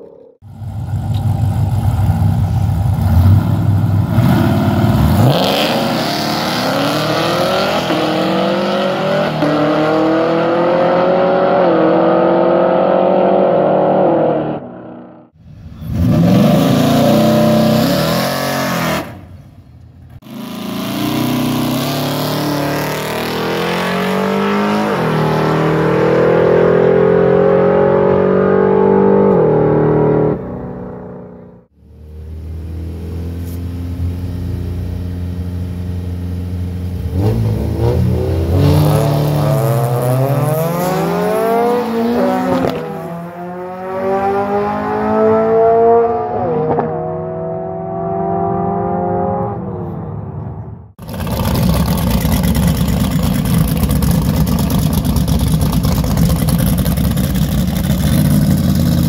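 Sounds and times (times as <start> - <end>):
drag race cars accelerating: 0.0 - 19.4, 20.1 - 31.6, 36.9 - 59.0.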